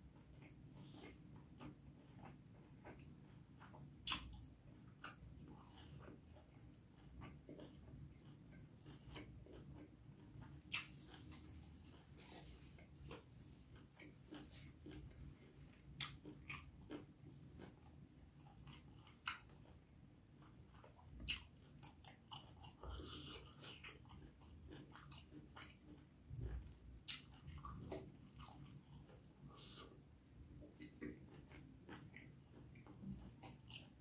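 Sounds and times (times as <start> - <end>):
chewing and wet mouth clicks: 0.2 - 34.0.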